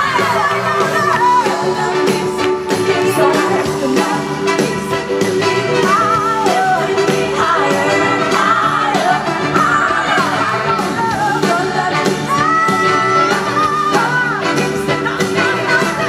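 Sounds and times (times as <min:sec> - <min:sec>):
live soul band playing: 0:00.0 - 0:16.0
woman singing: 0:00.0 - 0:16.0.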